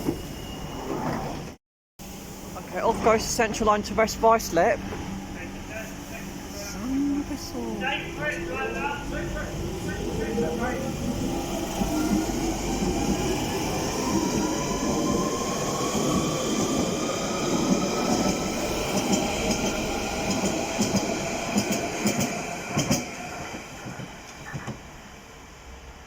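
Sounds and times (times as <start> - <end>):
rumble of train wheels: 0.0 - 26.0
train traction motor whine: 2.0 - 23.5.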